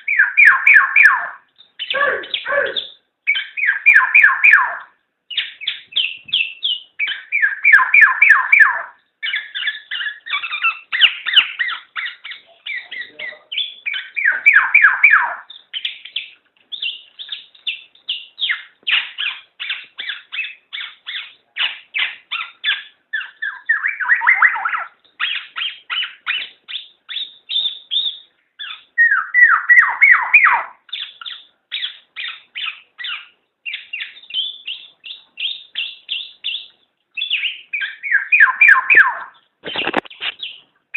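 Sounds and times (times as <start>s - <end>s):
oriole chirping notes: 0.0s - 39.4s
harsh rasping bird calls: 0.0s - 40.7s.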